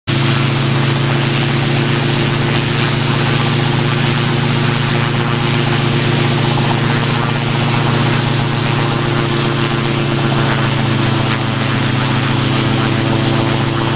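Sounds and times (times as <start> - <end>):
helicopter rotor chopping: 0.1 - 13.9.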